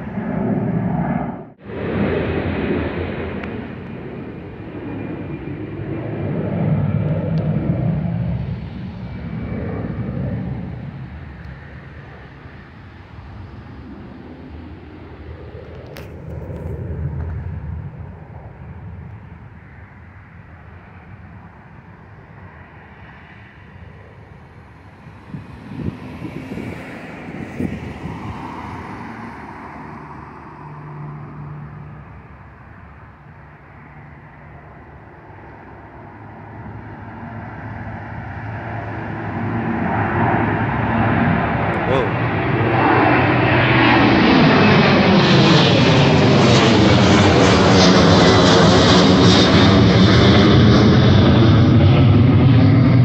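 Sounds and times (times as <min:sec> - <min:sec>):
airliner jet engines overhead: 0:00.0 - 0:53.0
road traffic rumble: 0:00.0 - 0:53.0
vehicles passing: 0:01.5 - 0:53.0.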